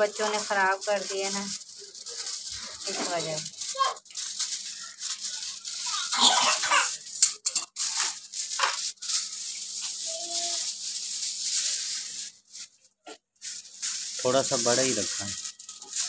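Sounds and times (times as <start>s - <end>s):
scissors cutting foil: 0.0s - 12.8s, 13.4s - 16.0s
aluminium foil crinkling: 0.0s - 16.0s.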